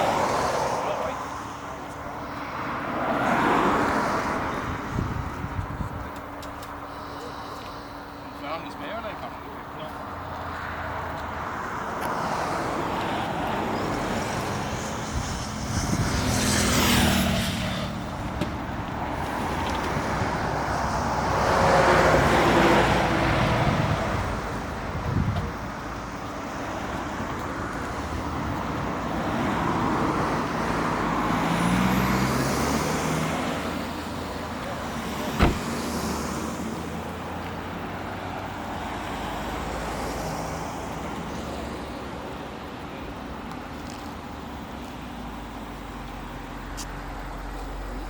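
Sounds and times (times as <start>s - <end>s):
passing car engines: 0.0s - 48.0s.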